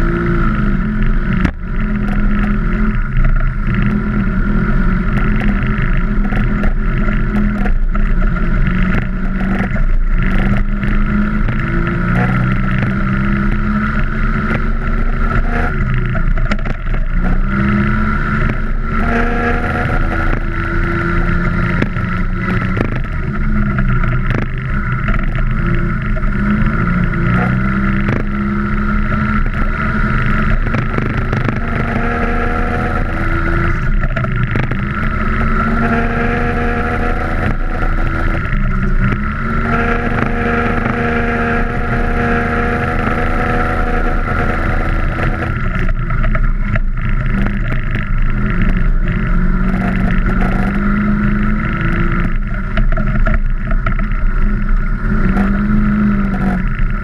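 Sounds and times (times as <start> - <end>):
scooter engine revving: 0.0 - 57.0.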